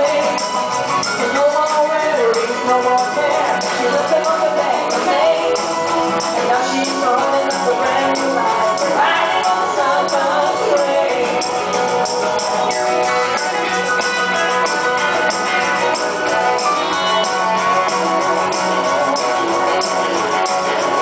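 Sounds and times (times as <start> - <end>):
song with many instruments: 0.0 - 21.0.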